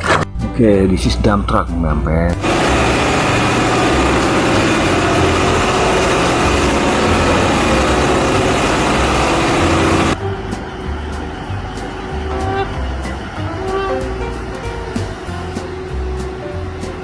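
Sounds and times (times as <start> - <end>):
heavy truck engine running: 2.4 - 17.0.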